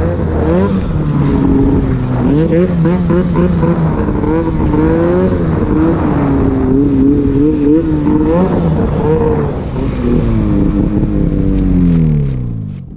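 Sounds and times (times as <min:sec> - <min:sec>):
vehicle engine revving: 0:00.0 - 0:12.9.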